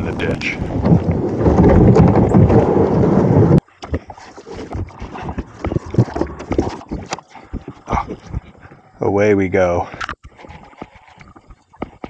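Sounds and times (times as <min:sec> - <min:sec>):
kayak hull scraping over rocks: 0:00.0 - 0:12.0.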